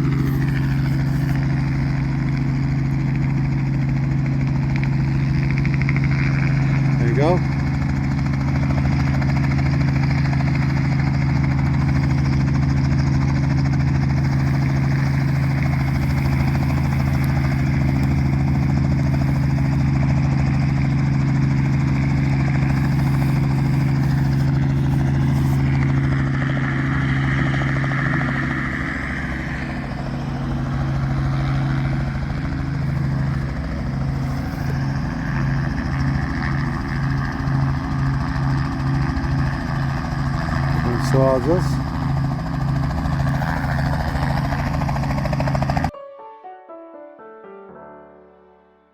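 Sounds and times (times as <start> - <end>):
helicopter engine and rotor hum: 0.0 - 45.9.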